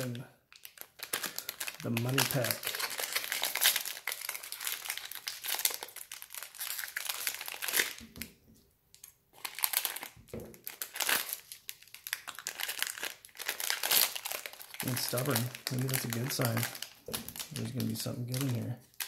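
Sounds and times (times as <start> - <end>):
foil wrapper crinkling and tearing: 0.0 - 8.3, 9.4 - 19.0.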